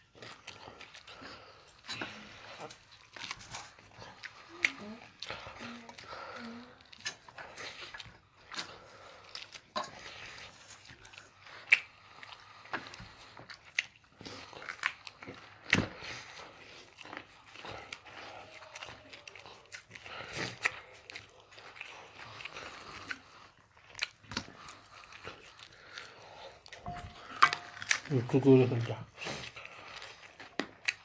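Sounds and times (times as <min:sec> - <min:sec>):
wet chewing and biting: 0:00.0 - 0:31.0.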